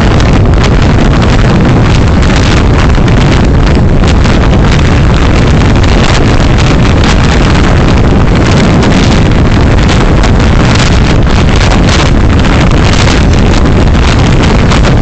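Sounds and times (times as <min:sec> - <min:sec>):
car road noise: 0:00.0 - 0:15.0
wind buffeting microphone: 0:00.0 - 0:15.0.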